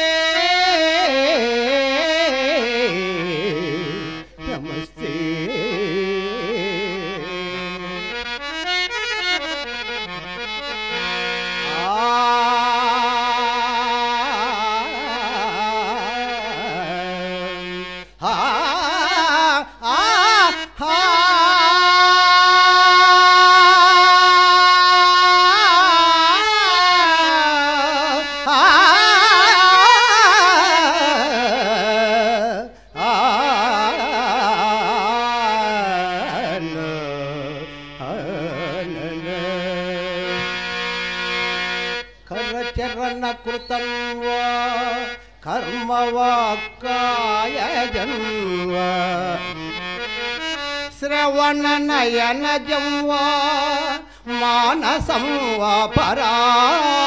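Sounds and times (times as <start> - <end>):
person singing wordless alaap: 0.0 - 57.0.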